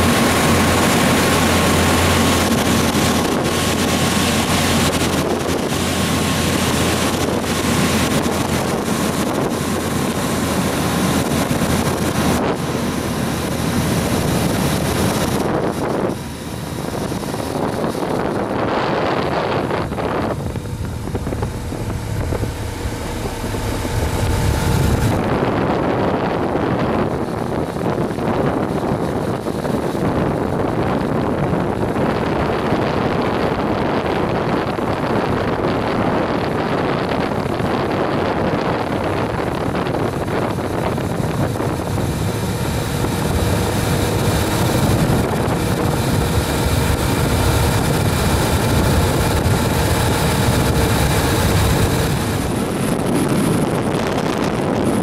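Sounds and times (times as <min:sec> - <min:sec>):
vehicle engine noise: 0:00.0 - 0:55.0
wind buffeting microphone: 0:00.0 - 0:55.0.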